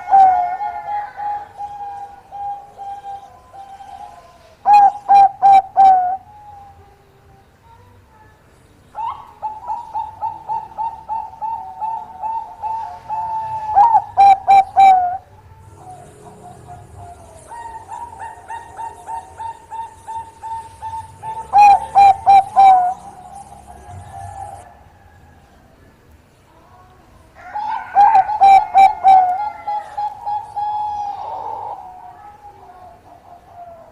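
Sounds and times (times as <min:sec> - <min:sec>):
dove cooing: 0:00.0 - 0:07.0, 0:09.0 - 0:25.5, 0:27.4 - 0:33.9.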